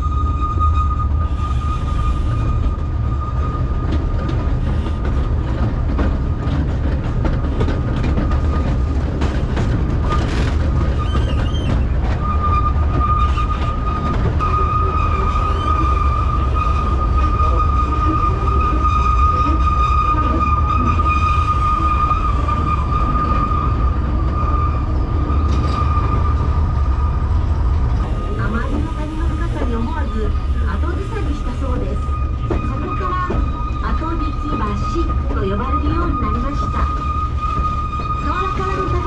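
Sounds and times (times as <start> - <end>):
high wheel squeal: 0.0 - 3.9, 10.0 - 39.0
train heavy rumble: 0.0 - 39.0.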